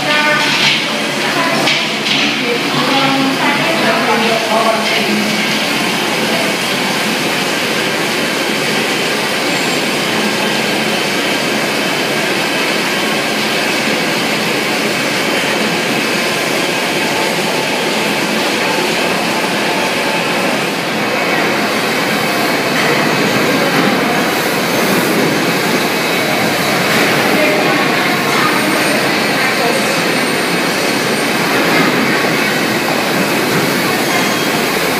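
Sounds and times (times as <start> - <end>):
processing line machinery din: 0.0 - 34.9.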